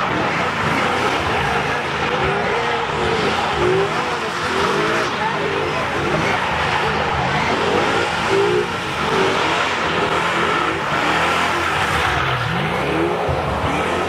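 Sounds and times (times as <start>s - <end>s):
car engine revving: 0.0s - 14.0s
spinning tyres squealing: 0.0s - 14.0s.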